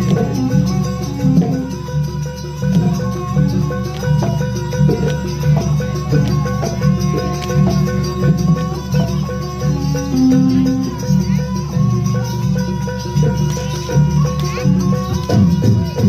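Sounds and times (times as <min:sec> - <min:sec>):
low drums beating: 0:00.0 - 0:16.0
ringing pitched percussion: 0:00.0 - 0:16.0.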